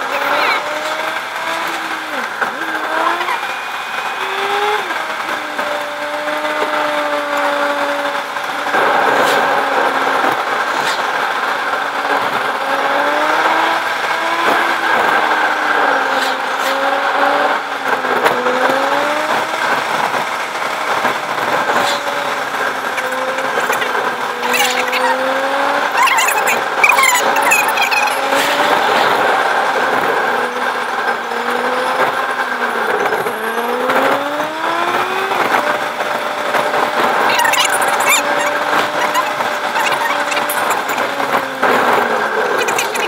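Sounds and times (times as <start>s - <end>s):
car engine revving: 0.0s - 43.0s
road and wind noise: 0.0s - 43.0s.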